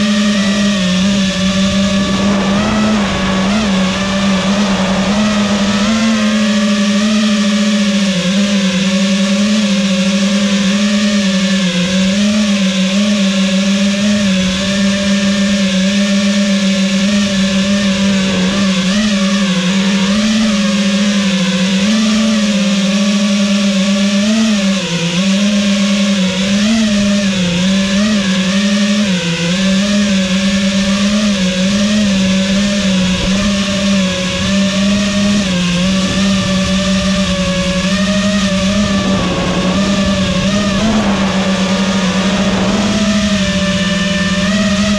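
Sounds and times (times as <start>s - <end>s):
drone motors buzzing: 0.0s - 44.9s.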